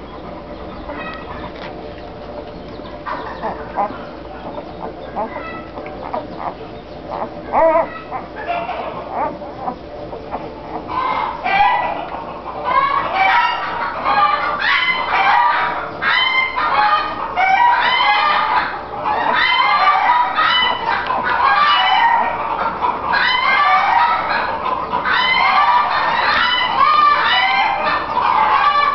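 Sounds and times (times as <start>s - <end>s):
puppies squealing and whining: 0.0s - 28.9s.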